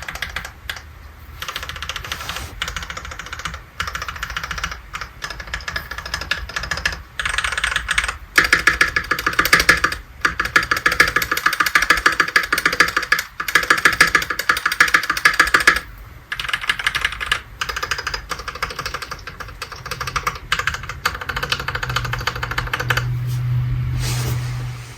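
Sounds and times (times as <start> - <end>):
fast typing on mechanical keyboard: 0.0 - 23.1.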